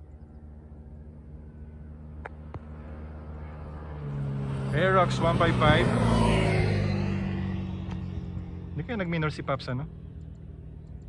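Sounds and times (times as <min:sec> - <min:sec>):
scooter engine droning: 0:00.0 - 0:11.0.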